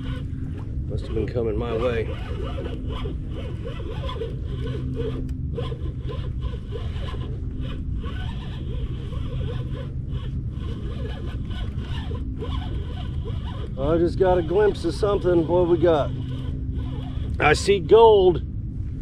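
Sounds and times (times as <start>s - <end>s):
fishing reel whirring: 0.0s - 18.4s.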